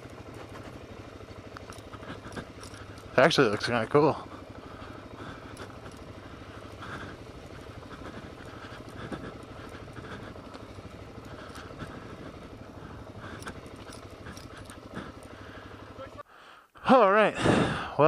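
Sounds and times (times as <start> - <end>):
motorcycle engine running: 0.0 - 16.3.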